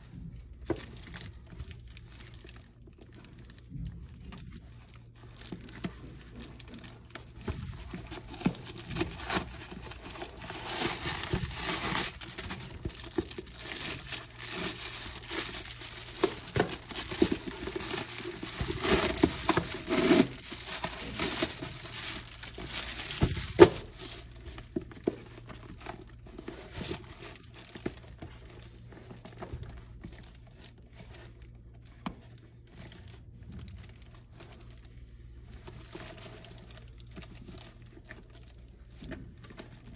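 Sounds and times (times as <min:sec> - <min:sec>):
leather bag rustling and crinkling: 0:00.2 - 0:39.9.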